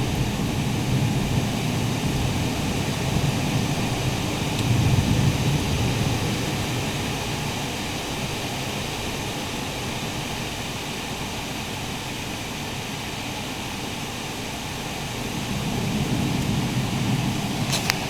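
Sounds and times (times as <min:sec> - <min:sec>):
wind and rain rushing: 0:00.0 - 0:18.0.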